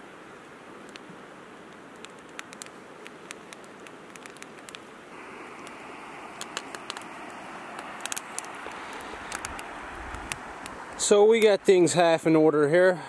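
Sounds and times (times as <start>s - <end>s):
river rushing: 0.0s - 13.0s
campfire crackling and popping: 0.8s - 11.9s.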